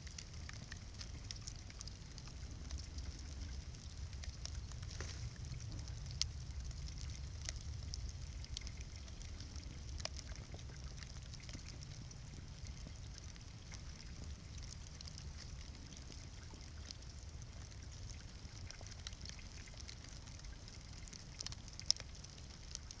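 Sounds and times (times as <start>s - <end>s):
bonfire crackling: 0.0s - 23.0s.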